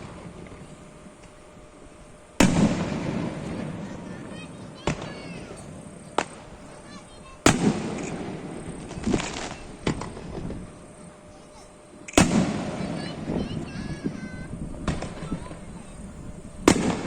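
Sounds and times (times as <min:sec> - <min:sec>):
firework booms: 0:00.0 - 0:01.4, 0:02.4 - 0:17.0
small firework pops and crackle: 0:00.0 - 0:01.4, 0:02.4 - 0:10.8, 0:11.5 - 0:17.0.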